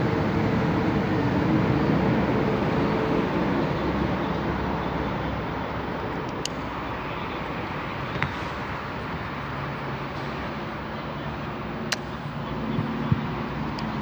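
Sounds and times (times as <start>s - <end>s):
steady rumbling: 0.0s - 14.0s.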